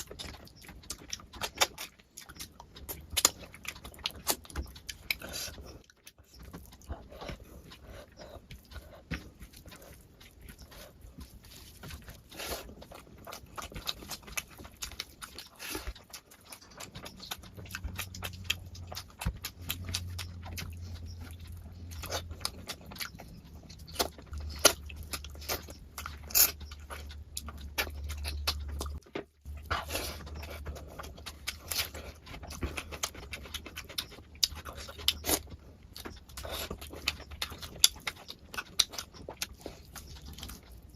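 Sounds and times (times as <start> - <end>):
wet chewing and lip smacks: 0.0 - 40.9.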